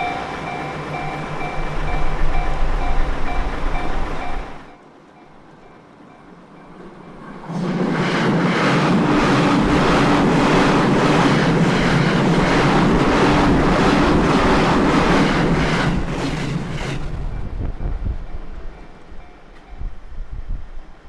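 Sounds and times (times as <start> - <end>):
train wheels clattering: 0.0 - 20.1.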